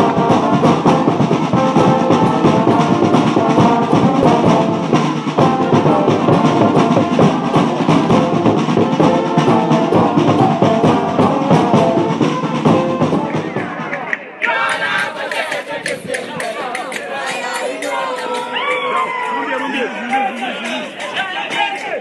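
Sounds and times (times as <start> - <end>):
brass and drums marching music: 0.0 - 22.0.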